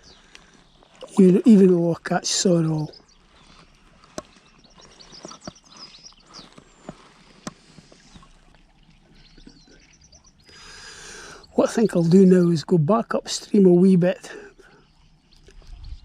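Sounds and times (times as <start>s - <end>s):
small birds twittering: 0.0s - 16.0s.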